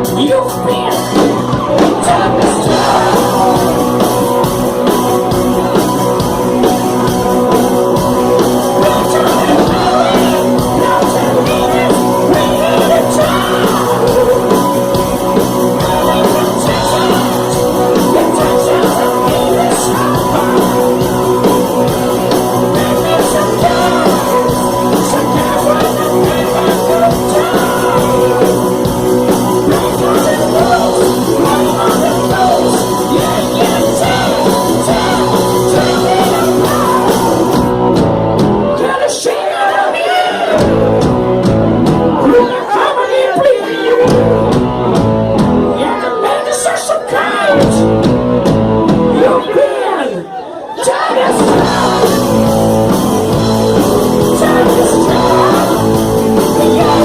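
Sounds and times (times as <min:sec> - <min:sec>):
loud rock music with singing: 0:00.0 - 0:57.0.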